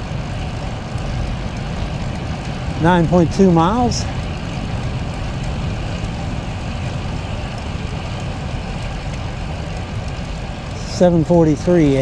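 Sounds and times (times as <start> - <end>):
road noise: 0.0 - 12.0
wind rush on microphone: 0.0 - 12.0.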